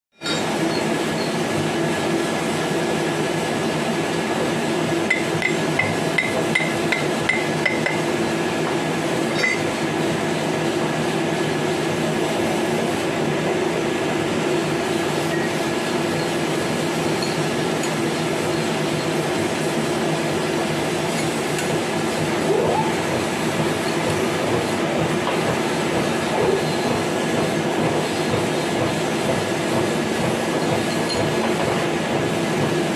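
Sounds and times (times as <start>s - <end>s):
workshop machinery hum: 0.1s - 32.9s.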